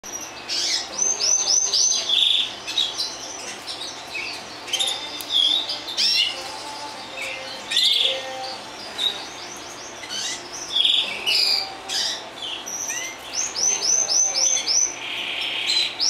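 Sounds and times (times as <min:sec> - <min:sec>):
canaries chirping: 0:00.0 - 0:16.0.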